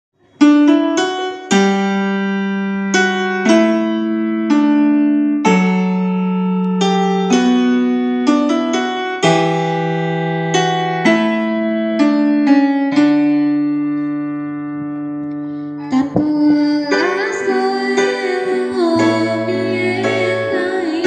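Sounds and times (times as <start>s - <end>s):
keyboard playing chords: 0.2s - 21.0s.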